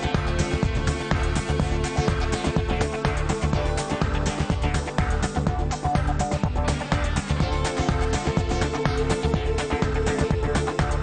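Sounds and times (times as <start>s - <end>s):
music with electronic beat: 0.0s - 11.0s.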